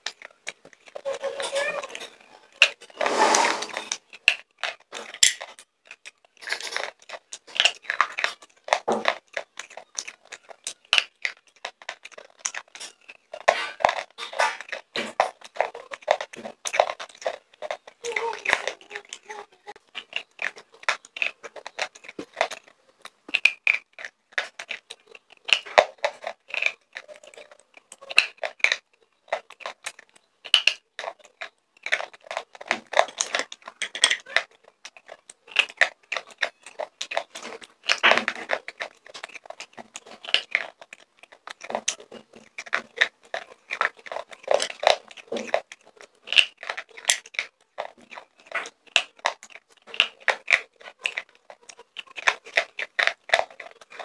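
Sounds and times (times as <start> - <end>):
pencils being chewed crunching: 0.0 - 54.0.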